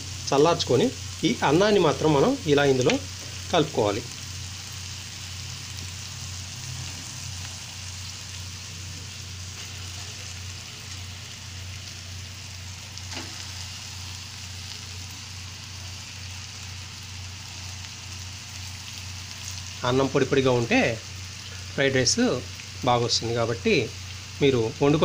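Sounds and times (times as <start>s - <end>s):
vegetables sizzling in hot oil: 0.0s - 25.0s.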